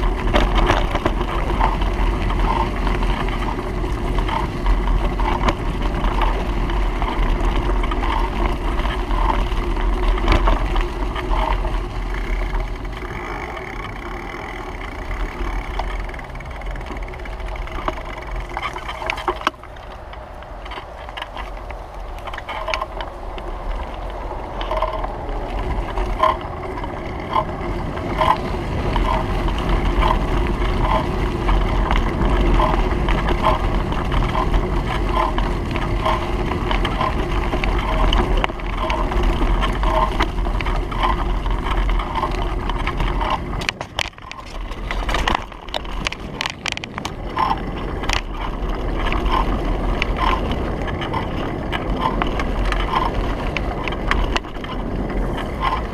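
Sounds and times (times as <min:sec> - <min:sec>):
bicycle rolling noise: 0:00.0 - 0:55.9
regular ticking: 0:00.0 - 0:55.9
wind on microphone: 0:00.0 - 0:55.9.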